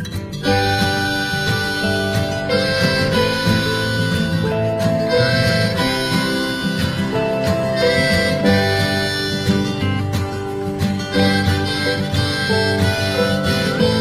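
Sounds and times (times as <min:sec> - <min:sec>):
instrumental music with held melody: 0:00.0 - 0:14.0.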